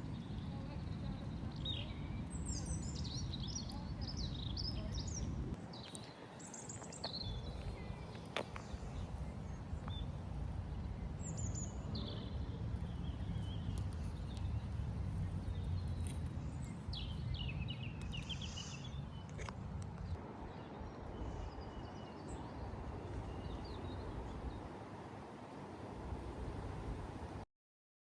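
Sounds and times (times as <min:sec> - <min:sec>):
low outdoor rumble: 0:00.0 - 0:05.8, 0:06.4 - 0:27.4
small birds chirping: 0:00.0 - 0:24.2.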